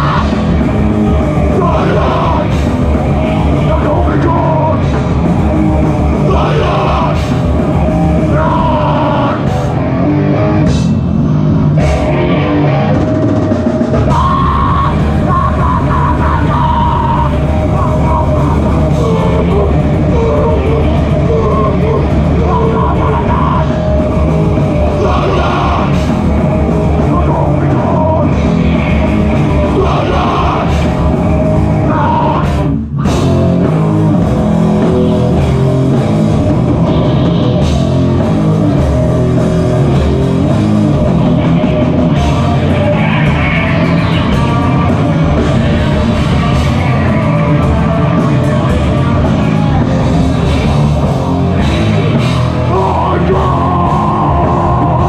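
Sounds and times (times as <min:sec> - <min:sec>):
distorted guitar: 0:00.0 - 0:55.0
drums: 0:00.0 - 0:55.0
loud live band: 0:00.0 - 0:55.0.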